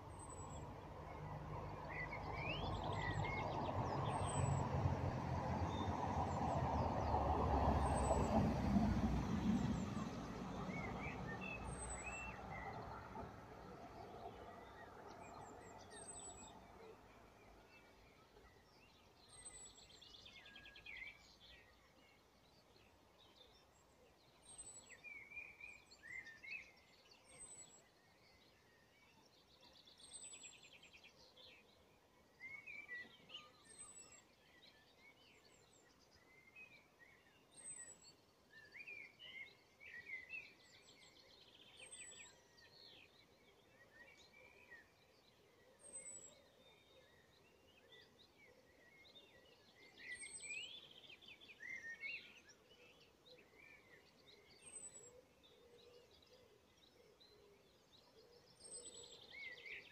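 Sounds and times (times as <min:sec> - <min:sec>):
faint songbird chirps and trills: 0:00.0 - 0:59.9.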